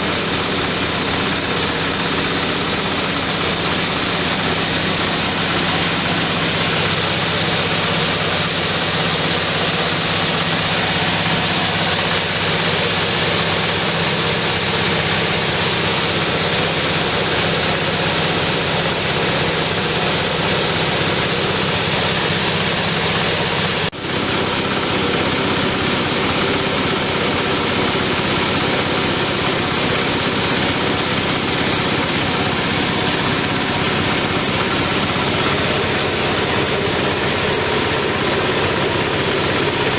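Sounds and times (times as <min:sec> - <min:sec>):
hulling machine rushing noise: 0:00.0 - 0:39.9.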